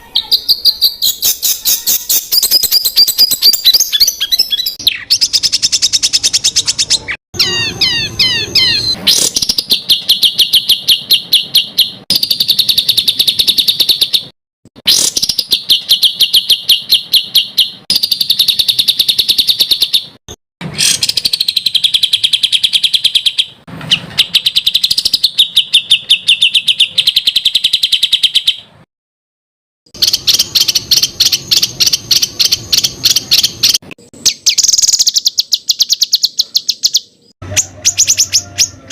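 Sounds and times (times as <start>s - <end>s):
songbird rapid-fire song: 0.0s - 28.7s, 29.9s - 38.9s.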